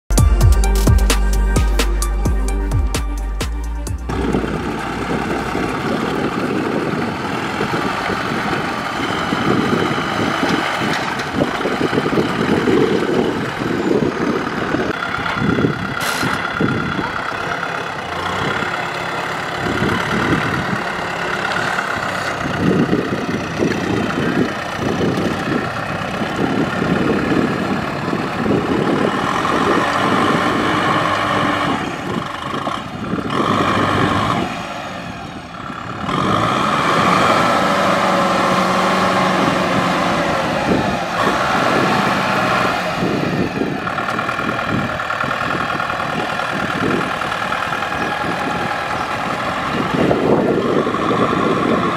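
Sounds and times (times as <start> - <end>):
tractor diesel engine working hard: 0.1 - 51.9.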